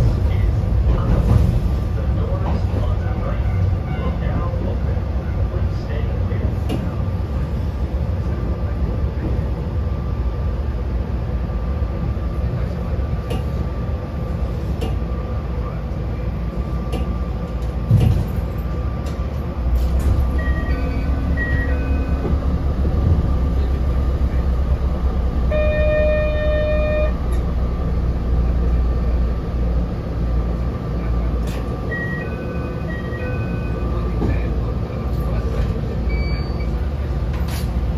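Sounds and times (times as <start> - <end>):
railcar hum: 0.0 - 37.9
railcar running rumble: 0.0 - 37.9.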